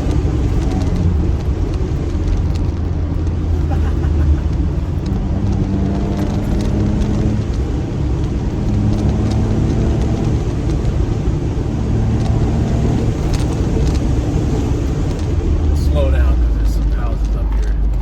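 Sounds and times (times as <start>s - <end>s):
small car engine pulling hard: 0.0s - 17.8s
road and wind rumble: 0.0s - 18.0s.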